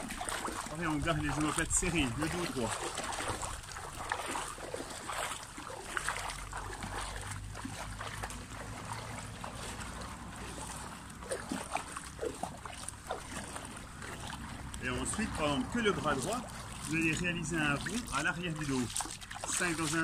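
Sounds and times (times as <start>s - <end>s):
pool water sloshing and splashing: 0.0s - 20.0s.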